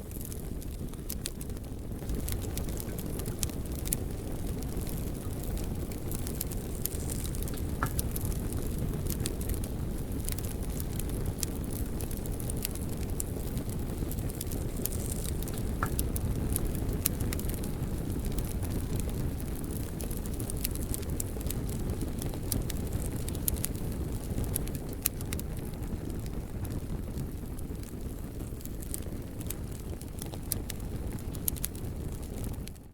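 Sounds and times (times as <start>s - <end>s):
fire flames rumbling: 0.0s - 32.9s
logs crackling and popping: 0.0s - 32.9s.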